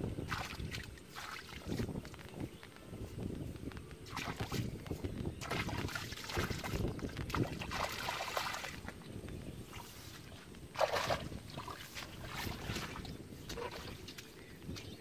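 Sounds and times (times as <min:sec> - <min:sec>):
muddy water splashing and sloshing: 0:00.0 - 0:02.4, 0:04.0 - 0:15.0.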